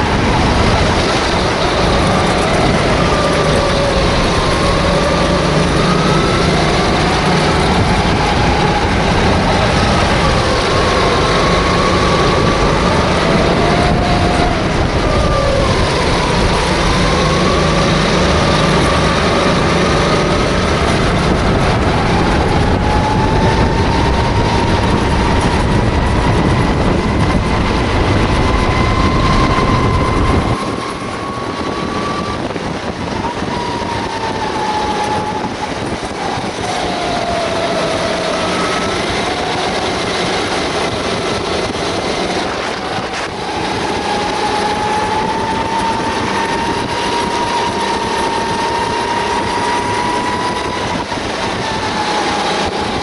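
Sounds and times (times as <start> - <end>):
kart engine running flat out: 0.0 - 53.0
wind buffeting the microphone: 0.0 - 53.0.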